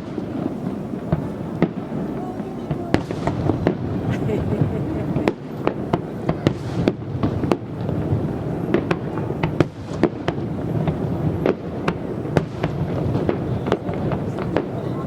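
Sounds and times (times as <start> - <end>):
firework bangs and crackles: 0.0 - 15.0.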